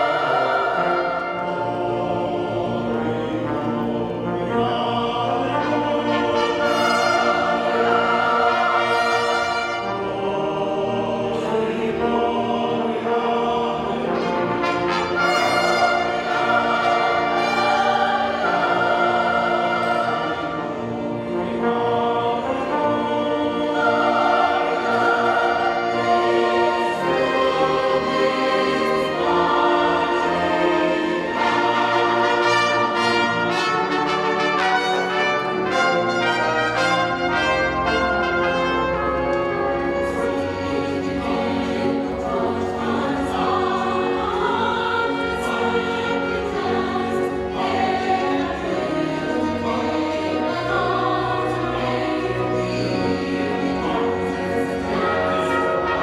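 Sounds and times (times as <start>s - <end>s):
choir singing: 0.0s - 56.0s
orchestra with brass: 0.0s - 56.0s.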